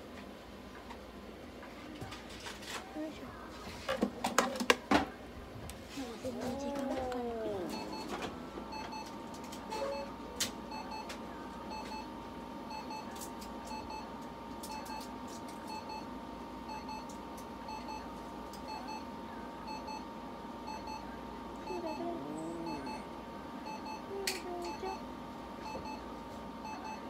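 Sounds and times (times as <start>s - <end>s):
electrical tone and hum: 4.9s - 27.0s.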